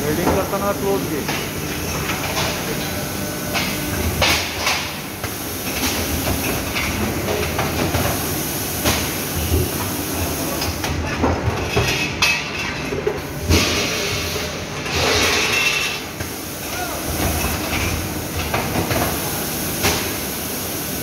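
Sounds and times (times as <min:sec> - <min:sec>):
welding machine hum and hiss: 0:00.0 - 0:21.0.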